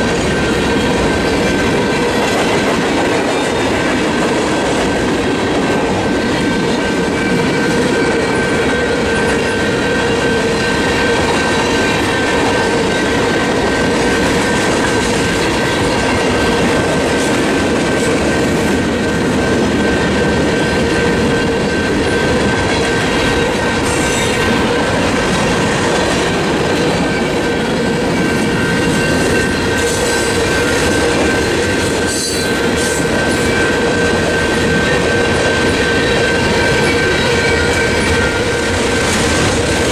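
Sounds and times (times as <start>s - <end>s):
crossing bell ringing: 0.0s - 39.9s
train wheels clacking over rail joints: 0.0s - 39.9s.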